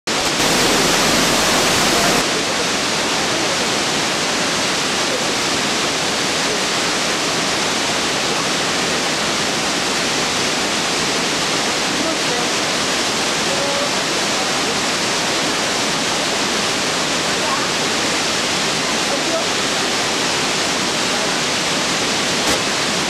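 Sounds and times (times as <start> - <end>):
waterfall roaring: 0.1 - 23.0.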